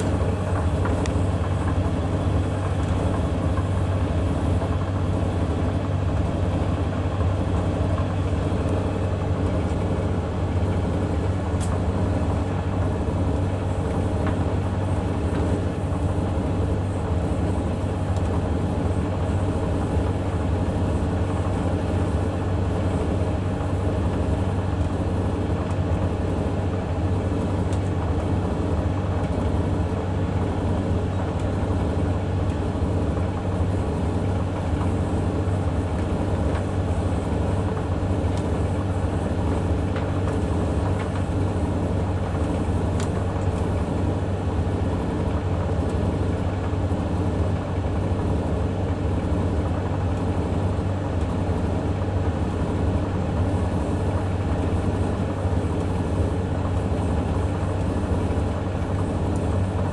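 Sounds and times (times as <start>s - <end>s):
dryer drum turning laundry: 0.0s - 59.9s
washing machine and dryer hum: 0.0s - 59.9s.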